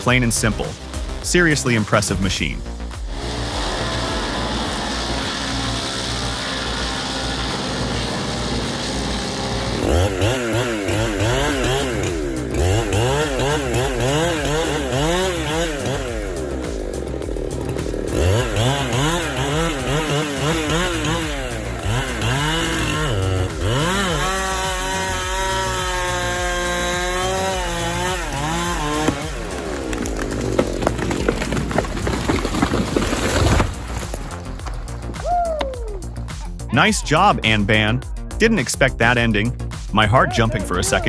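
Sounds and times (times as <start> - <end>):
chainsaw engine revving: 0.0 - 35.2.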